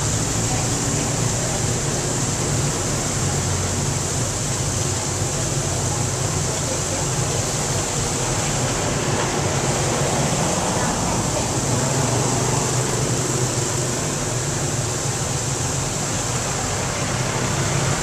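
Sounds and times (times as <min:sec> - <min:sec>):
fountain water splashing: 0:00.0 - 0:18.0
road traffic hum: 0:00.0 - 0:18.0.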